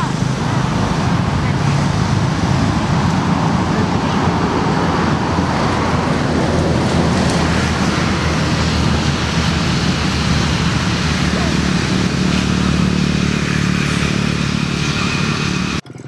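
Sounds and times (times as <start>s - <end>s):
motor traffic rumble: 0.0s - 15.8s.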